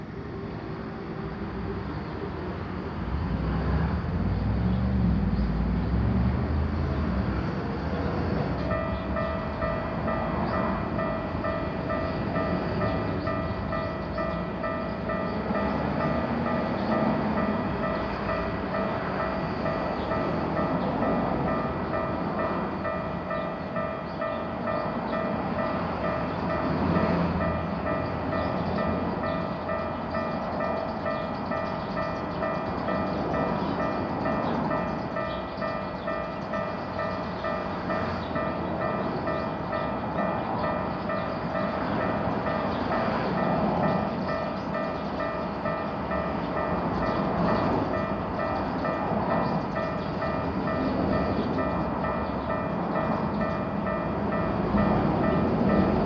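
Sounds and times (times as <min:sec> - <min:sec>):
passing vehicle rumble: 0:02.7 - 0:56.0
level crossing warning bell ringing: 0:08.4 - 0:56.0.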